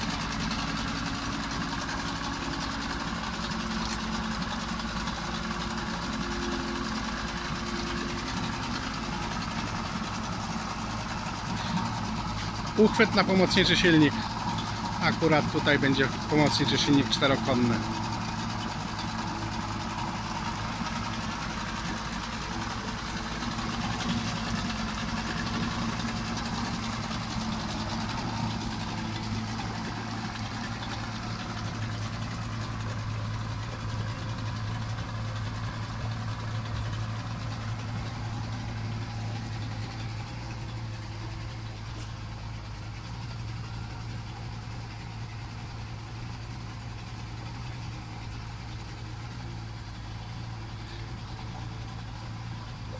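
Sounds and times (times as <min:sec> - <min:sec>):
outboard motor idling: 0:00.0 - 0:52.9.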